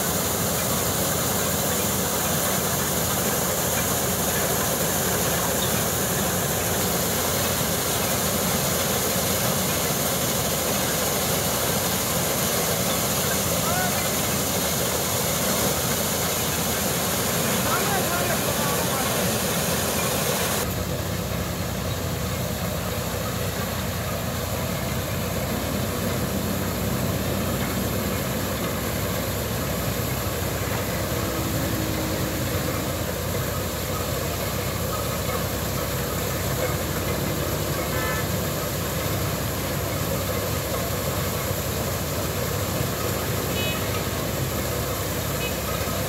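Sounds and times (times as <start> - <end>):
engine drone: 0.0 - 46.0
maize sheller mechanical noise: 0.0 - 46.0.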